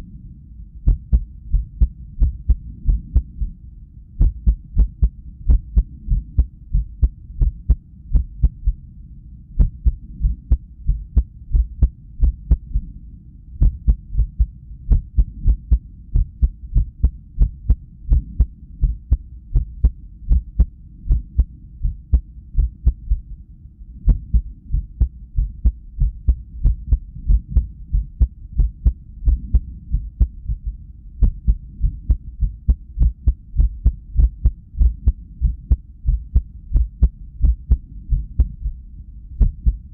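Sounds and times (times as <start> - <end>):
ultrasound heartbeat with clicks: 0.8 - 3.6, 4.2 - 8.8, 9.6 - 12.9, 13.6 - 23.4, 24.0 - 39.9.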